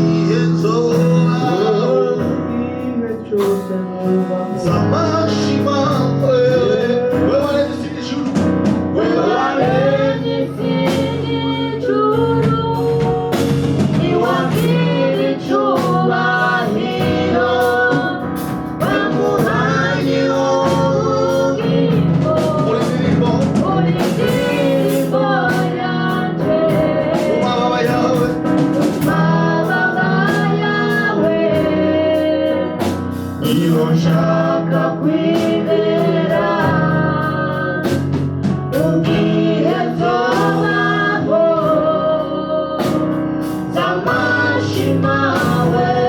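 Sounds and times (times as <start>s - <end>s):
gospel singing: 0.0s - 46.0s
live band with drums: 0.0s - 46.0s.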